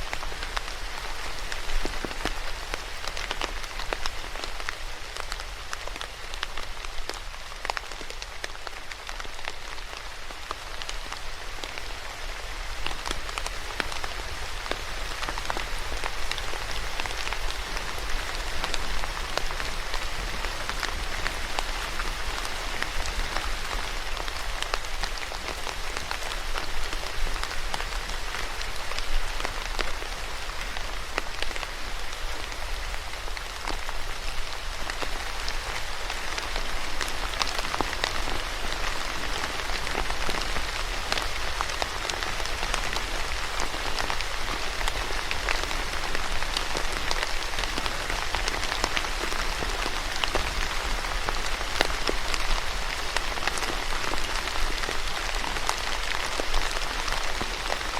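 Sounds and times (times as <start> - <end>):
raindrops pattering: 0.0 - 57.9
steady rain: 0.0 - 57.9.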